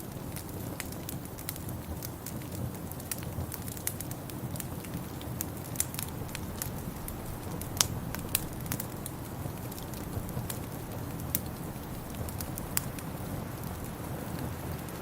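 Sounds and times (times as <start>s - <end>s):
low fire rumble: 0.0s - 15.0s
wood fire crackling: 0.0s - 15.0s
sharp pops and snaps: 0.1s - 13.9s.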